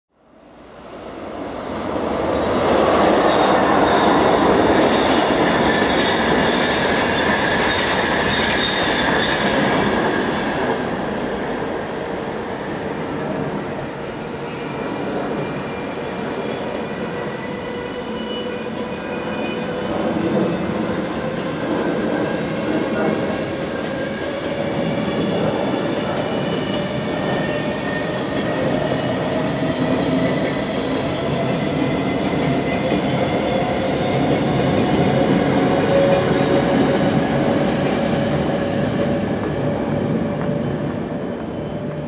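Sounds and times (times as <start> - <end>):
train rumbling: 0.5 - 42.0
train wheels squealing: 2.6 - 13.0, 13.9 - 42.0.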